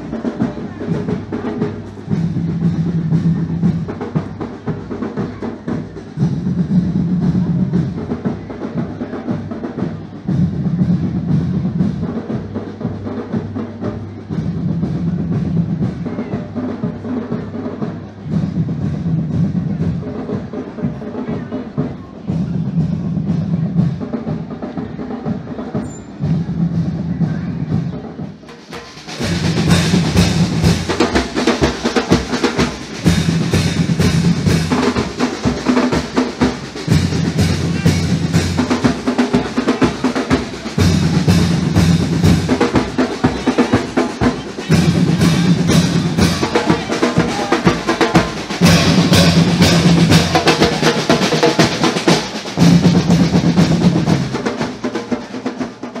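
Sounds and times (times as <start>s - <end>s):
bass drums: 0.0s - 56.0s
snare drum strokes and rolls: 0.0s - 56.0s.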